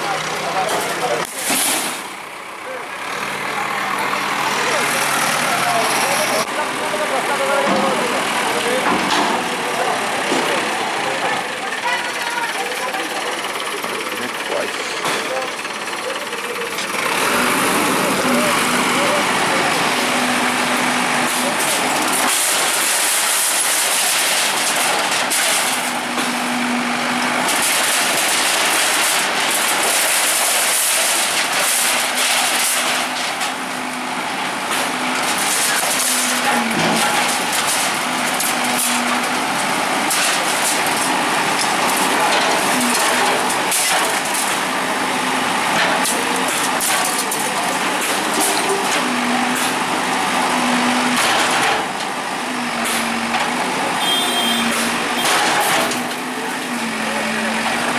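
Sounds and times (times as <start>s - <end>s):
bulldozer diesel engine: 0.0s - 57.9s.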